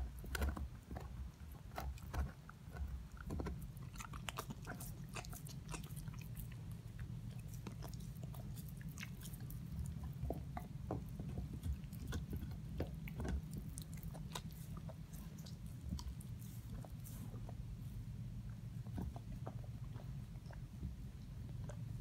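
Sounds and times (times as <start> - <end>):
dog crunching a chew: 0.0 - 17.7, 18.4 - 22.0
low steady hum: 0.0 - 22.0.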